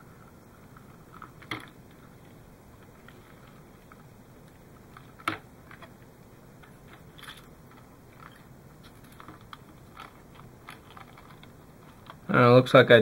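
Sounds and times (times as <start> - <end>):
fingers handling insulated wire: 0.6 - 12.3.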